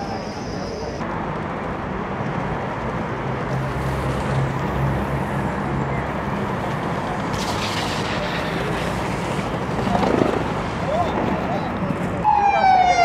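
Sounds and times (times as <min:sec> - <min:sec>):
traffic hum: 0:00.0 - 0:13.0
skateboard wheels rolling on paving: 0:01.1 - 0:12.2.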